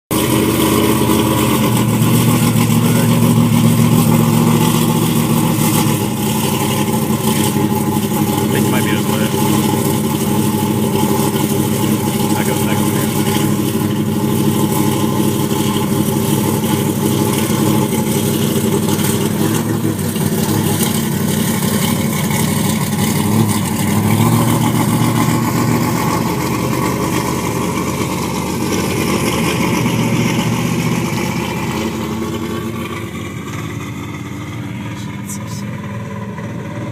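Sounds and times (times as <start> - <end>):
truck engine running: 0.0 - 36.9.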